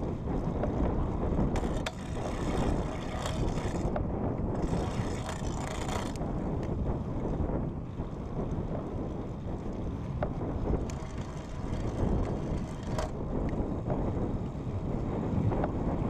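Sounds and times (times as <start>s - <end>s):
tyre noise on asphalt: 0.0s - 16.0s
wind buffeting microphone: 0.0s - 16.0s.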